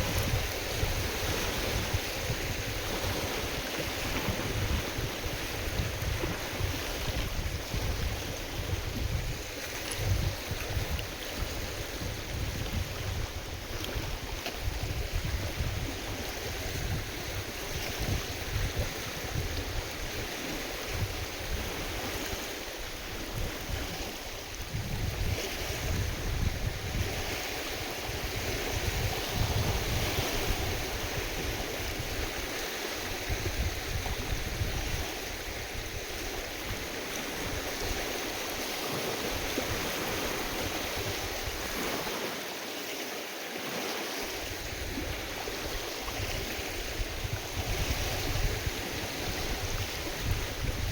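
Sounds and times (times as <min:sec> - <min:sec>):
wind buffeting microphone: 0:00.0 - 0:42.5, 0:44.2 - 0:50.9
water sloshing and splashing: 0:00.0 - 0:50.9.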